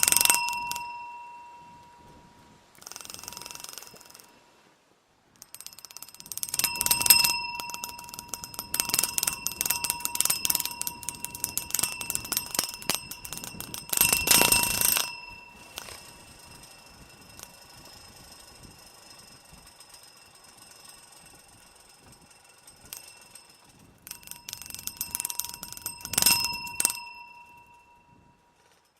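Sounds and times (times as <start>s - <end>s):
hollow post ringing: 0.0s - 4.4s, 5.4s - 28.9s.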